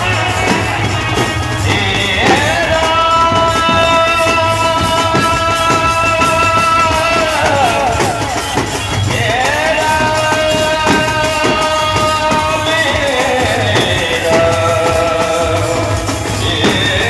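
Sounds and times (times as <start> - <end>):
pounding bass drum: 0.0 - 17.0.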